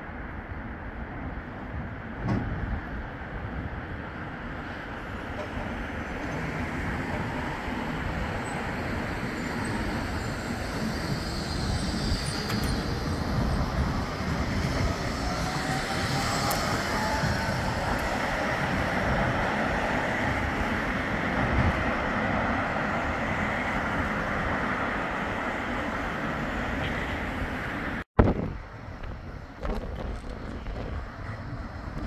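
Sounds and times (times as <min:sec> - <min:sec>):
tram wheels rumbling on rail: 0:00.1 - 0:32.0.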